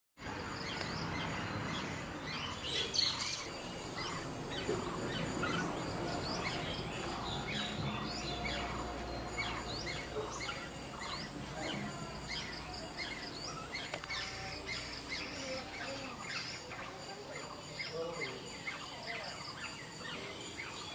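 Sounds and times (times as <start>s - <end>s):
small birds chirping: 0.2s - 20.9s.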